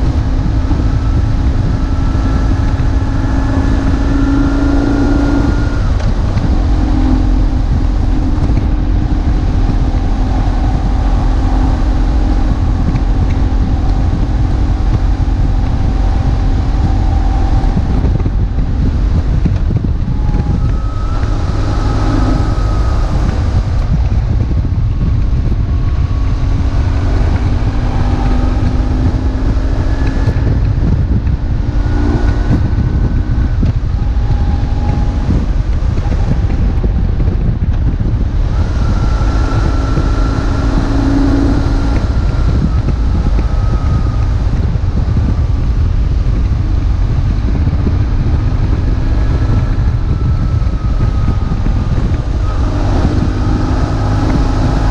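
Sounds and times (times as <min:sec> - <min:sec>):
motorcycle engine running: 0:00.0 - 0:54.9
wind buffeting microphone: 0:00.0 - 0:54.9.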